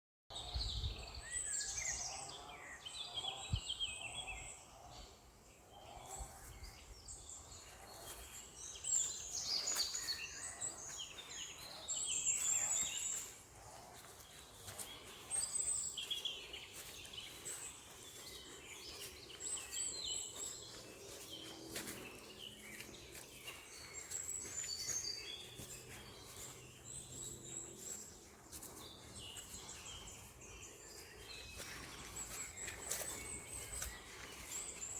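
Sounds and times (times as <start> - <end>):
songbirds chirping and trilling: 0.3 - 34.9.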